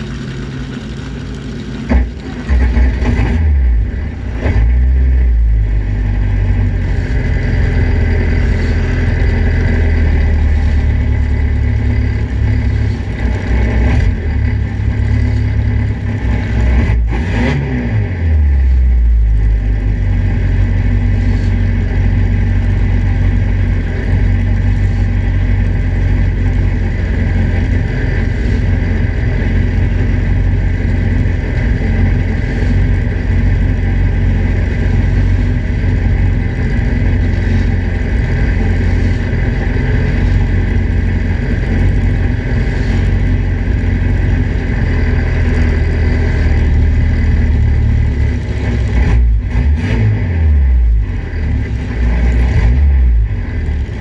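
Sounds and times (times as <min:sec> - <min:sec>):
race car engine idling: 0:00.0 - 0:17.1, 0:18.0 - 0:54.0.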